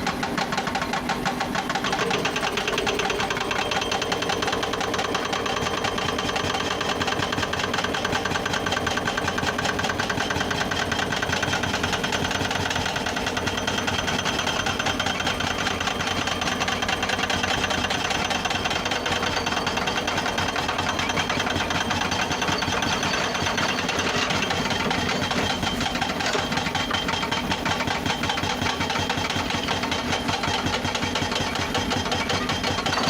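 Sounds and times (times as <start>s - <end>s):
excavator diesel engine pulsing: 0.0s - 33.0s.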